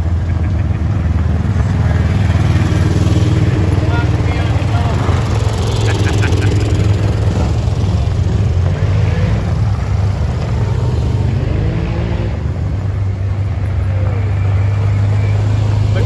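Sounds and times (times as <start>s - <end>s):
vehicle engines passing by: 0.0s - 16.0s.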